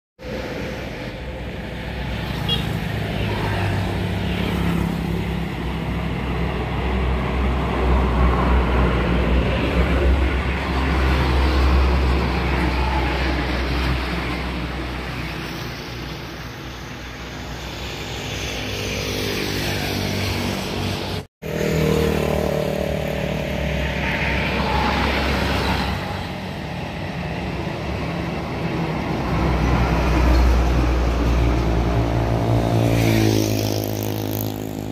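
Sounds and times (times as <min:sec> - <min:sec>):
diesel trucks droning past: 0:00.2 - 0:34.9
motorcycle engines buzzing by: 0:00.3 - 0:34.9.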